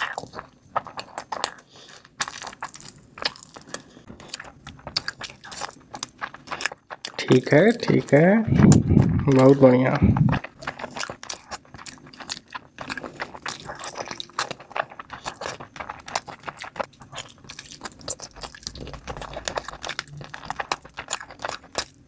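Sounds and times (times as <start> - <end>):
wet chewing smacks and clicks: 0.0 - 9.5, 10.2 - 22.0.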